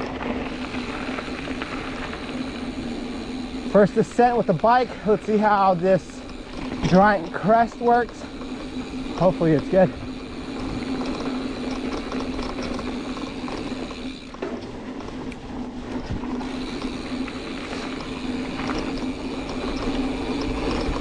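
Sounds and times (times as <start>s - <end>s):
bike freehub pawls buzzing: 0.0s - 21.0s
tyre and wind noise: 0.0s - 21.0s.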